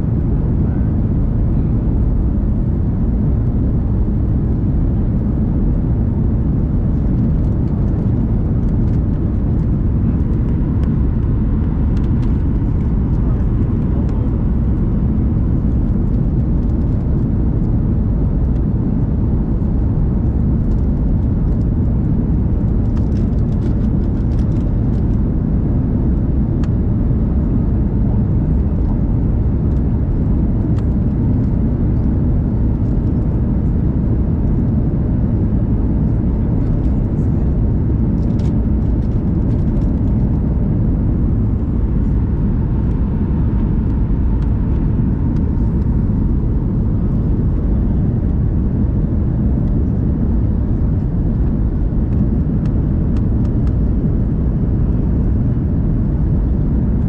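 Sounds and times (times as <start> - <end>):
faint hum: 0.0 - 57.0
jet engine and airflow rumble: 0.0 - 57.0.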